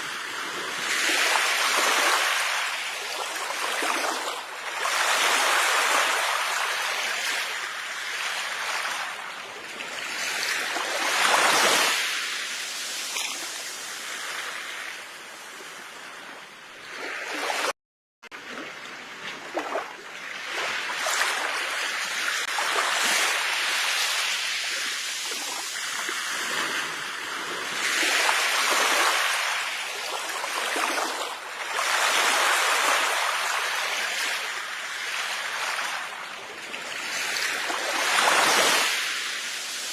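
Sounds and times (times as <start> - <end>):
sea waves washing onto shore: 0.0 - 16.3, 18.4 - 39.9.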